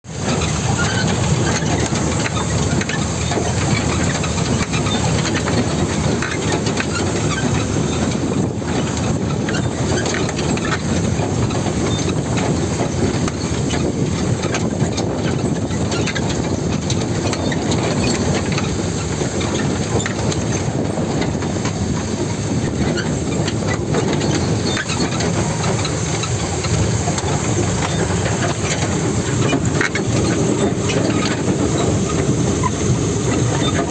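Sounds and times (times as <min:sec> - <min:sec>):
heavy truck rumbling: 0:00.0 - 0:33.9
rattling clatter: 0:00.1 - 0:33.9.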